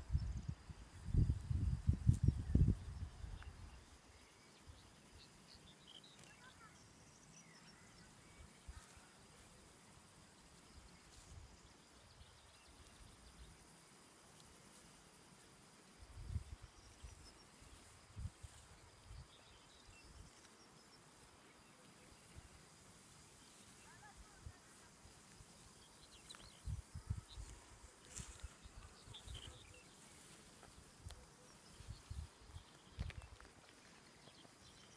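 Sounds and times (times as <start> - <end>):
high insect hum: 0.0 - 34.9.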